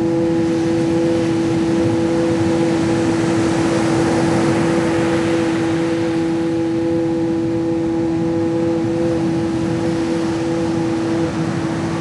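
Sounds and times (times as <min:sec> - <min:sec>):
ocean waves washing: 0:00.0 - 0:12.0
sustained humming drone: 0:00.0 - 0:12.0.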